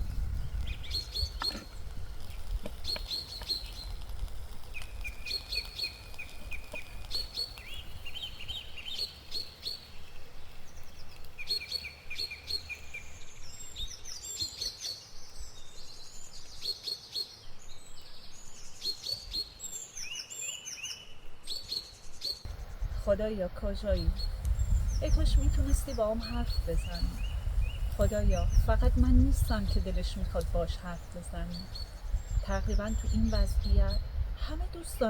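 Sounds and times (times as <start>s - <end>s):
songbirds singing: 0.0s - 35.0s.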